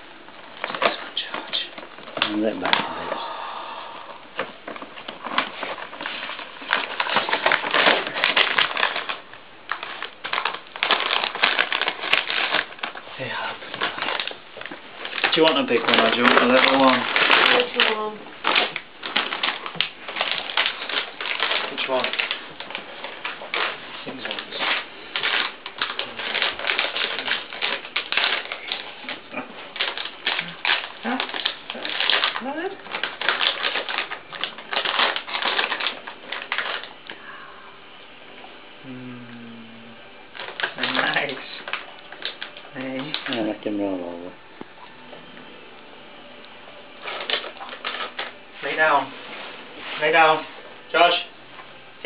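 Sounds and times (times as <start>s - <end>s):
paper bag crinkling and rustling: 0.4s - 3.3s, 4.3s - 37.2s, 40.3s - 44.9s, 46.9s - 51.3s.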